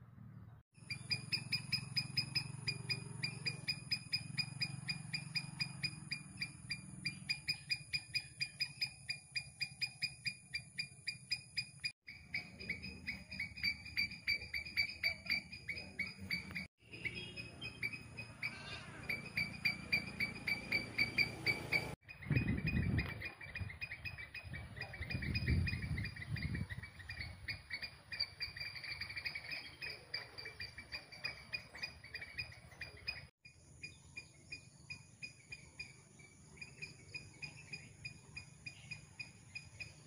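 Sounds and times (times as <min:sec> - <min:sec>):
squirrel chirping: 0:00.8 - 0:40.0.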